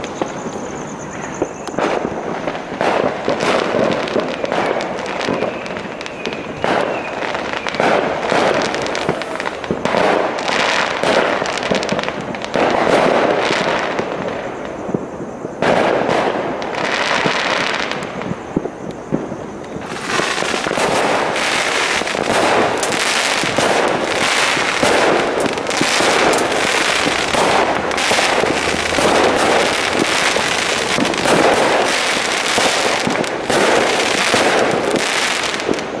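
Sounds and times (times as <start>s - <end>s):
fireworks cracking and banging: 0.0s - 36.0s.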